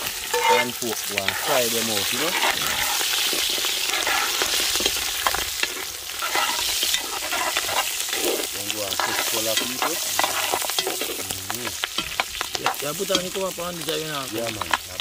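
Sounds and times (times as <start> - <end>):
food sizzling in hot oil: 0.0 - 15.0
crackles and pops: 2.2 - 15.0.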